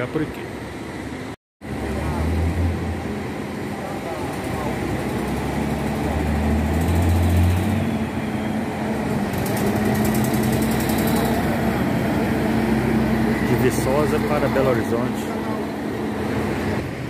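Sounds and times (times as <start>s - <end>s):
bus diesel engine passing: 0.5s - 17.0s.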